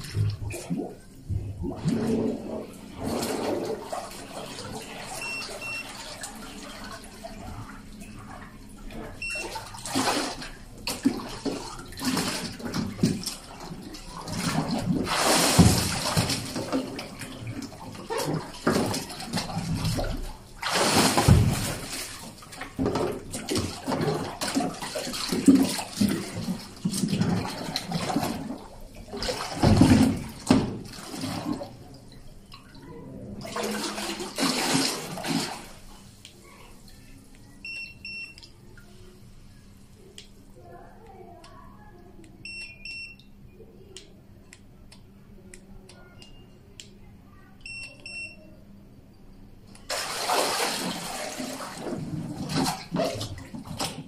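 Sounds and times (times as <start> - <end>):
water splashing in a tank: 0.0 - 41.2, 49.7 - 54.0.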